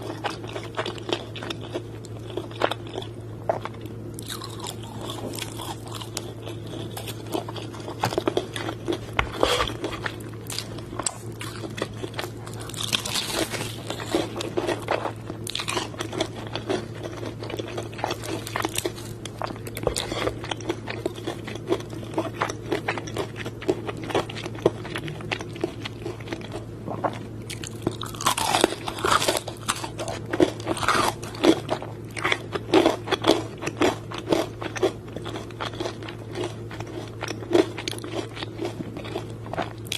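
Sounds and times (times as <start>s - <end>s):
crunching fried chicken: 0.0s - 39.9s
low steady hum: 0.0s - 39.9s.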